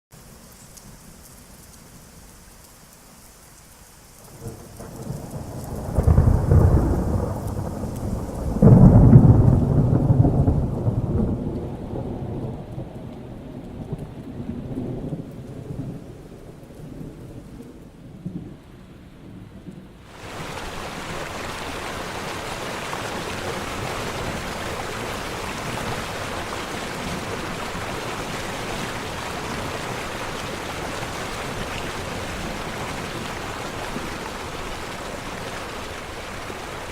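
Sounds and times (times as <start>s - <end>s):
heavy rain: 0.1s - 36.9s
thunder rumbling: 4.3s - 18.7s, 19.3s - 36.9s.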